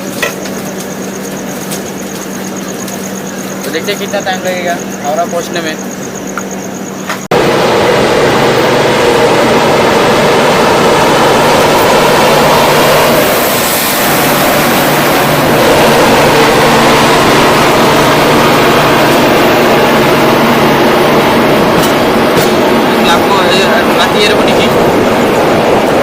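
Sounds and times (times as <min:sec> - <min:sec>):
constant low hum: 0:00.0 - 0:26.0
train rumble and hiss: 0:00.0 - 0:26.0.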